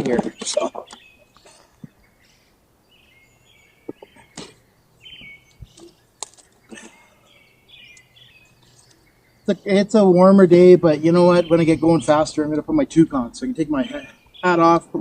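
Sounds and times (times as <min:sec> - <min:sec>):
birds chirping trills: 0:00.0 - 0:15.0.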